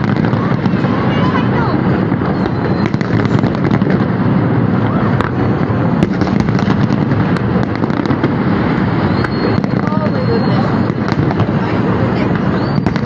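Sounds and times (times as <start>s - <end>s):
fireworks bangs: 0.0s - 13.0s
fireworks crackles and pops: 0.0s - 13.0s.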